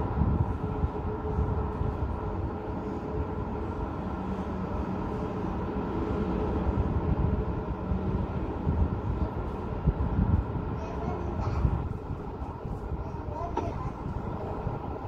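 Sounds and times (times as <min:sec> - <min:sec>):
city road traffic hum: 0:00.0 - 0:15.0
low engine drone: 0:00.0 - 0:15.0.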